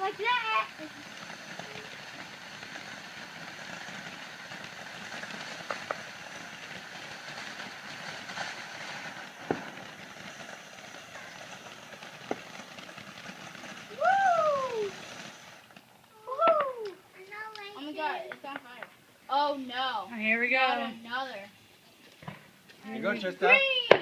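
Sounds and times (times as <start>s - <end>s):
sharp pops and crackles: 0.0s - 19.0s, 21.6s - 22.9s, 23.6s - 24.0s
firework torch hissing sparks: 0.0s - 24.0s.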